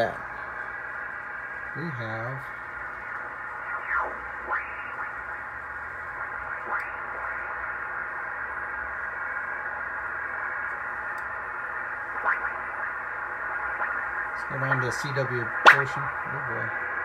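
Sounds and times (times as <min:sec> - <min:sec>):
radio band noise hiss: 0:00.0 - 0:17.0
radio whistles sliding in pitch: 0:00.4 - 0:16.1.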